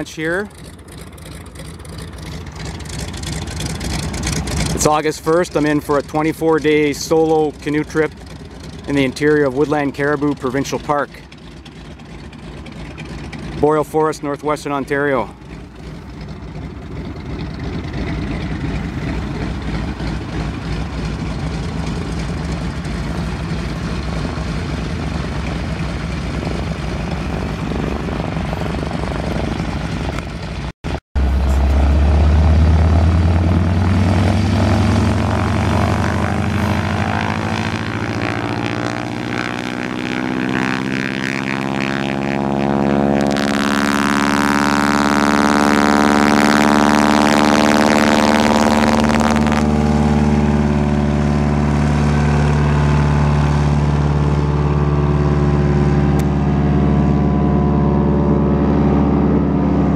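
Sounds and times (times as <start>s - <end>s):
propeller plane engine: 0.0s - 59.9s.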